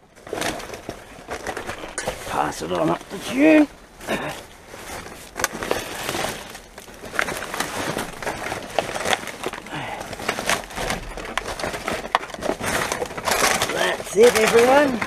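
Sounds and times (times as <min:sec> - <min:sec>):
plastic bin bags rustling: 0:00.0 - 0:15.0
rubbish clattering and knocking: 0:00.0 - 0:15.0.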